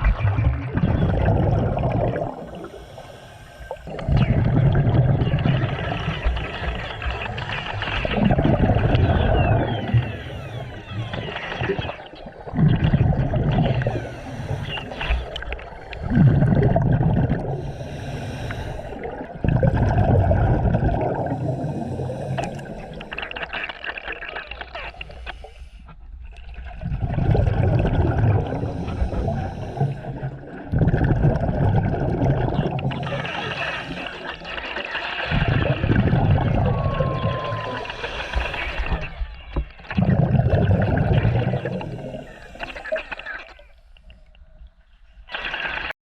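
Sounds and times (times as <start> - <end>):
underwater gurgling and bubbling: 0.0 - 45.9.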